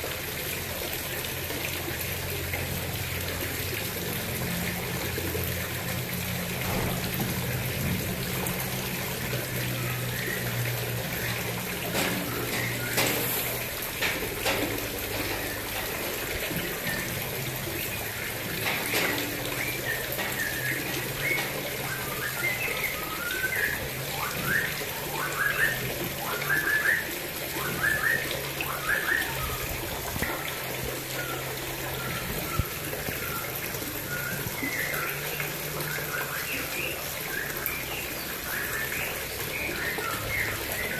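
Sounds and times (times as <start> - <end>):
water splashing into pond: 0.0 - 40.9.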